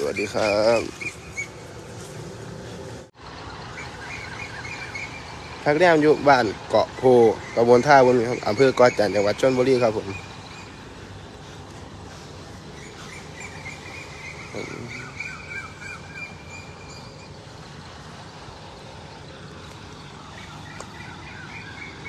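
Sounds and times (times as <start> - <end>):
birds chirping and twittering: 0.0 - 22.0
low outdoor background noise: 0.0 - 22.0.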